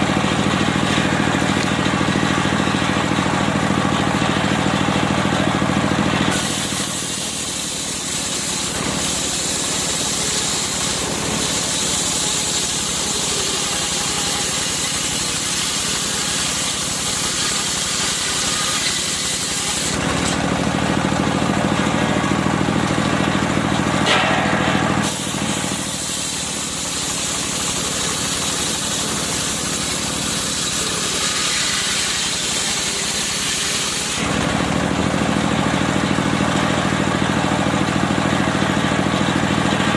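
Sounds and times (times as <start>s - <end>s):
saw blade cutting log: 0.0s - 37.6s
sawmill engine drone: 0.0s - 39.9s.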